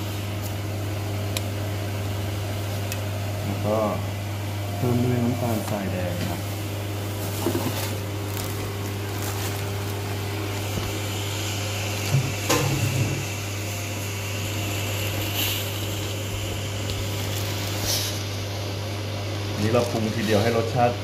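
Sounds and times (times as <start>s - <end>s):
electric motor hum: 0.0s - 21.0s.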